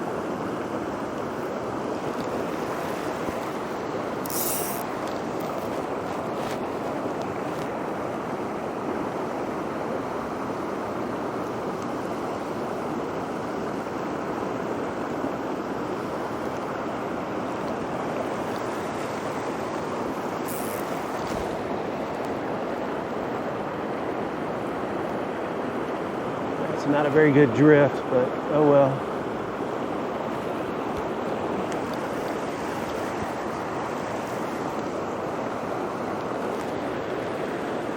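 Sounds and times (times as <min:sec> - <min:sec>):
stream rushing over rocks: 0:00.0 - 0:37.9.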